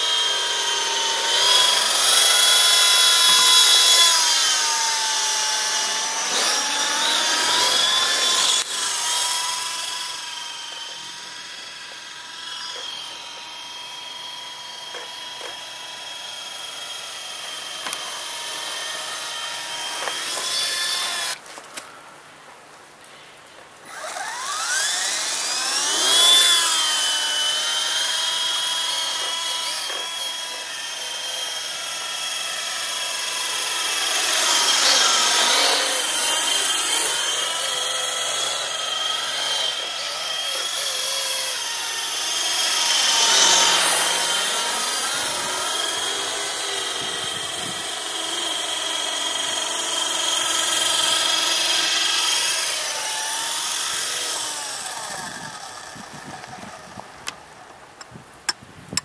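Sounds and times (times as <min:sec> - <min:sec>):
rotor hum: 0:00.0 - 0:21.4, 0:23.8 - 0:58.6
rc helicopter motor whine: 0:00.0 - 0:21.9, 0:23.8 - 0:59.0.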